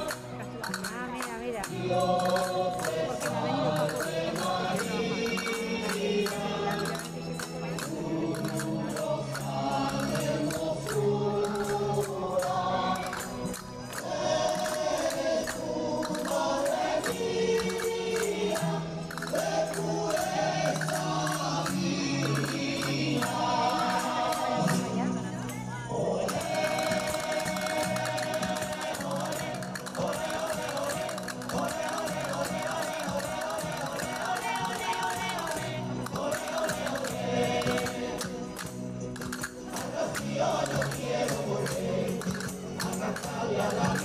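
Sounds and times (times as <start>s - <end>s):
group of voices singing: 0.0s - 44.0s
hand percussion beat: 0.0s - 44.0s.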